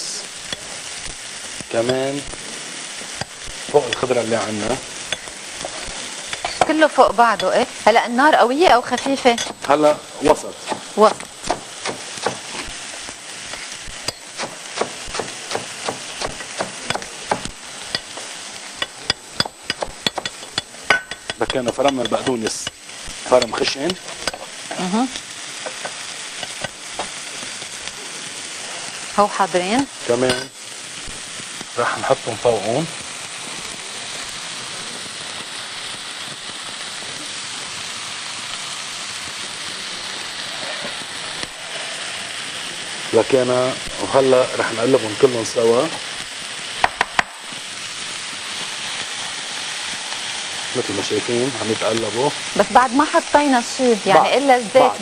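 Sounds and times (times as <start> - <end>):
vegetables sizzling in a pan: 0.0 - 55.0.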